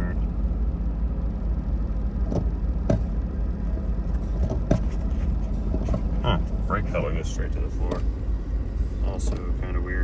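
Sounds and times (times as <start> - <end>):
car engine idling roughly: 0.0 - 10.0.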